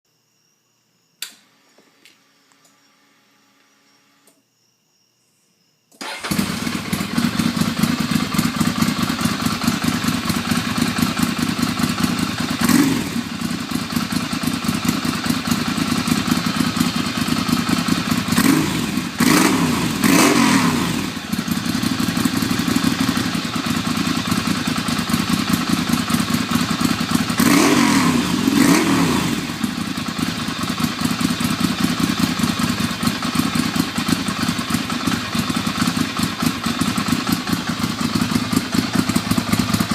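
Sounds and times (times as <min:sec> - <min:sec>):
motorcycle engine idling and revving: 0:06.0 - 0:39.9.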